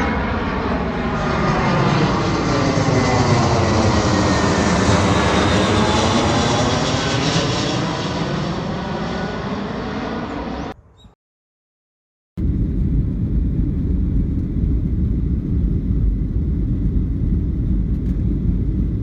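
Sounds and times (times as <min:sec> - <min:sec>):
jet airplane engine roar: 0:00.0 - 0:10.8, 0:12.4 - 0:19.0.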